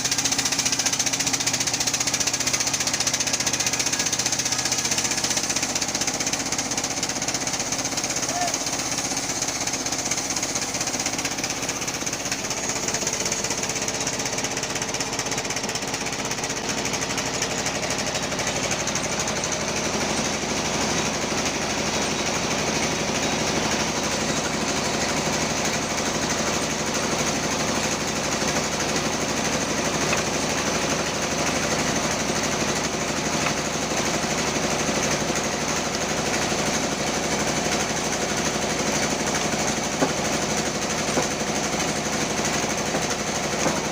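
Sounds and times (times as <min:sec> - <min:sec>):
band saw cutting wood: 0:00.0 - 0:43.9.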